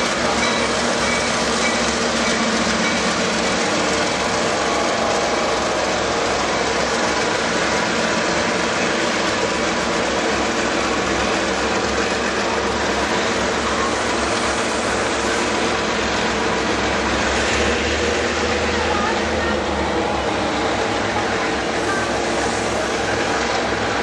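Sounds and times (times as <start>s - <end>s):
train wheels on track: 0.0s - 24.0s.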